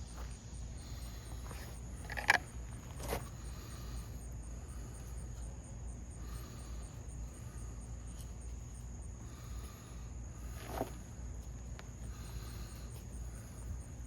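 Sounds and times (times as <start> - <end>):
insects trilling: 0.0 - 14.0
pulsing insect chirp: 0.0 - 14.0.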